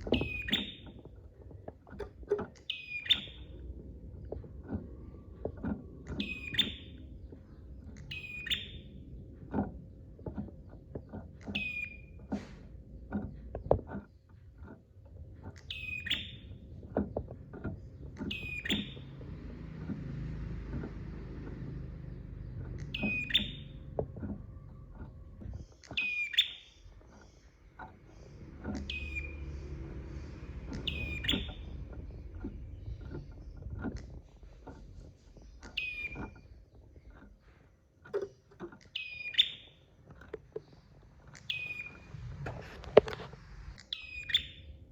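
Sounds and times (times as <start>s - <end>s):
low background rumble: 0.0s - 44.9s.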